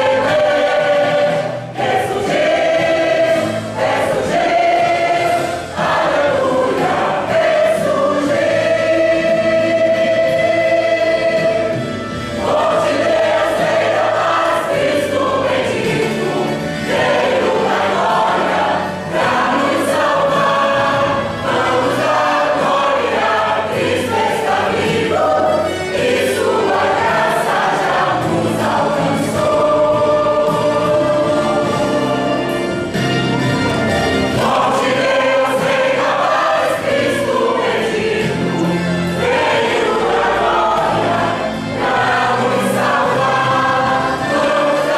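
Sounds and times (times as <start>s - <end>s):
choir singing worship music: 0.0s - 44.9s.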